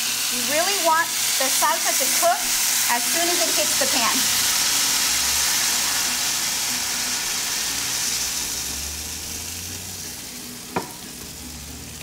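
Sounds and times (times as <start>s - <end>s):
salsa sizzling in hot oil: 0.0s - 12.0s.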